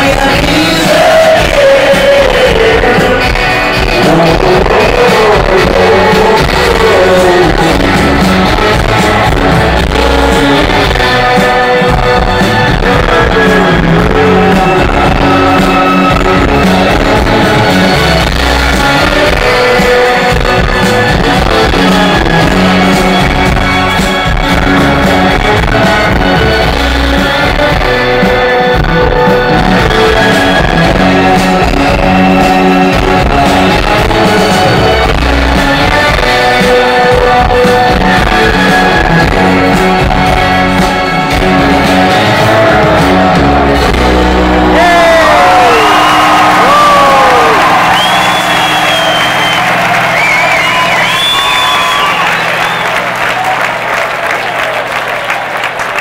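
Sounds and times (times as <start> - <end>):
person singing: 0.0 - 47.8
drums: 0.0 - 56.0
electric guitars: 0.0 - 56.0.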